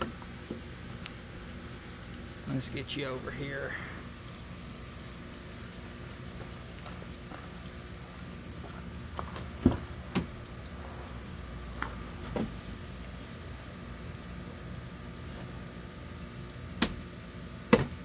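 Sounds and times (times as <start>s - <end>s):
light rain pattering: 0.0s - 18.0s.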